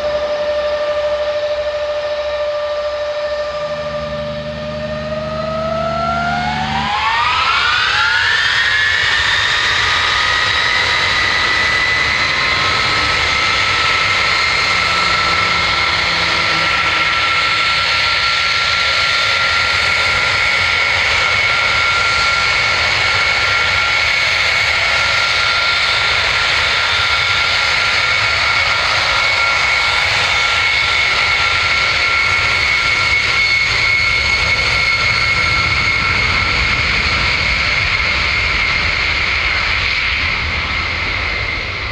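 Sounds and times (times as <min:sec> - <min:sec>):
jet engines spooling up: 0:00.0 - 0:41.9.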